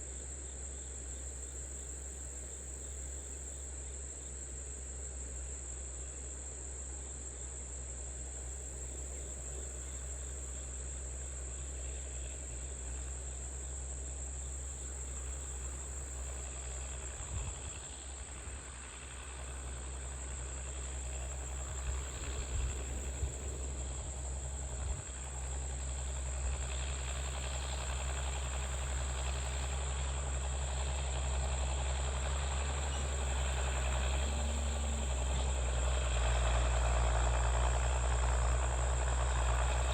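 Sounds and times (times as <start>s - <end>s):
crickets chirring: 0.0s - 39.9s
tractor engine running: 0.0s - 39.9s.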